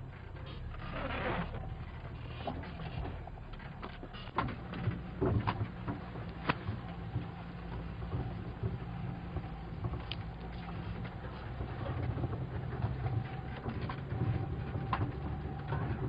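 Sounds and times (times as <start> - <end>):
body and suspension rattles: 0.0 - 16.0
vehicle engine at low revs: 0.0 - 16.0.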